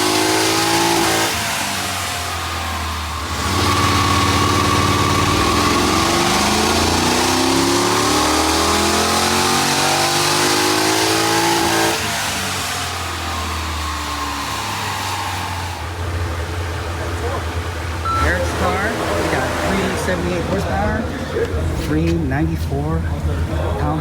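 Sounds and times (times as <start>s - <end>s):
car engine full-throttle pull: 0.0s - 24.0s.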